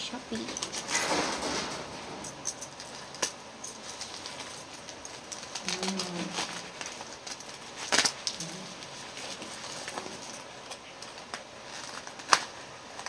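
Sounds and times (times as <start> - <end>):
plastic mailer tearing and crinkling: 0.4 - 13.0.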